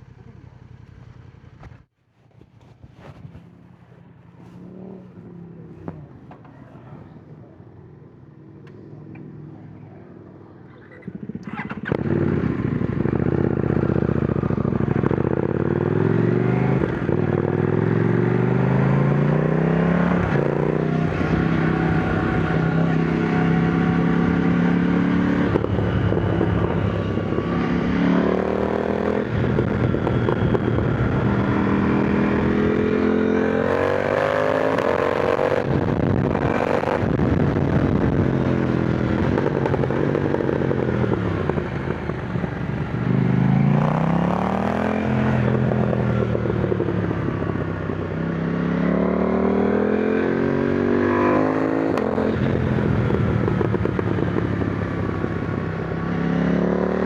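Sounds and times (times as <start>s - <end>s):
motorcycle engine revving: 3.0s - 57.0s.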